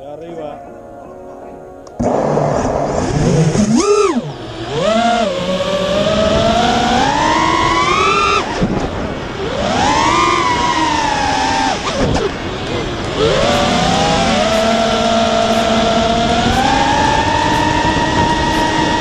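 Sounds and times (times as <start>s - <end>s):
drone motors whining: 2.0s - 19.0s.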